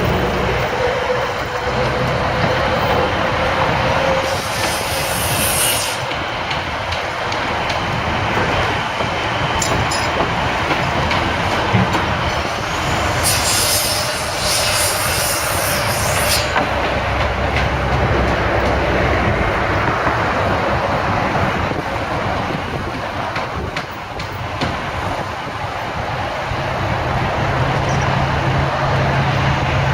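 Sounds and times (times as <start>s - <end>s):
heavy vehicle traffic rumble: 0.0s - 13.3s, 16.2s - 29.9s.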